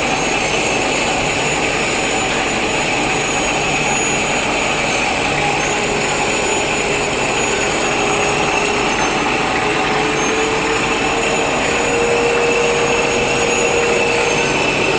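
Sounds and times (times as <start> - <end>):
factory machines whining: 0.0 - 14.9.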